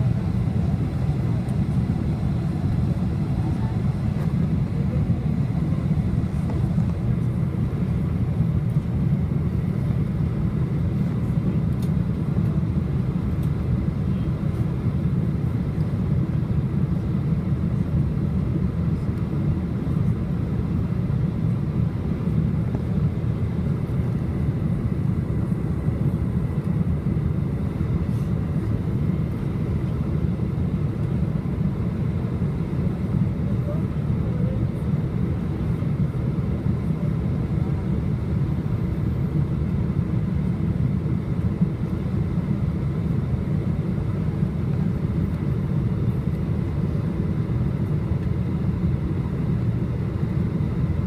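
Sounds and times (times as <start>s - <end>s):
airliner engines roaring in cabin: 0.0s - 51.0s.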